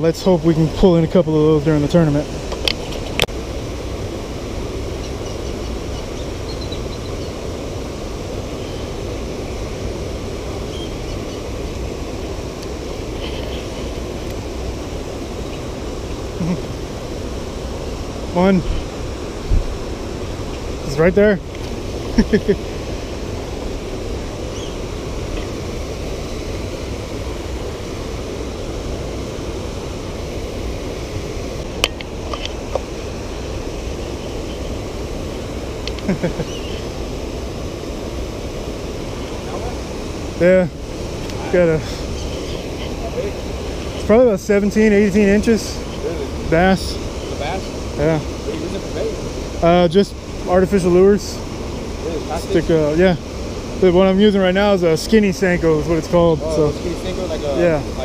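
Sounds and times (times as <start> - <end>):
water rushing over waterfalls: 0.0 - 58.0.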